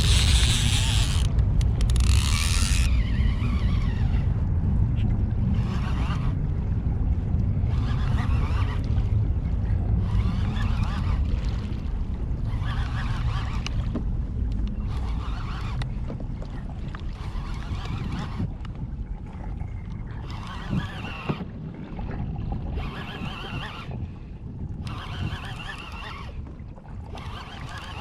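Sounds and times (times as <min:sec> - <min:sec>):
water splashing against kayak: 0:00.0 - 0:28.0
wind rumble on microphone: 0:00.0 - 0:28.0.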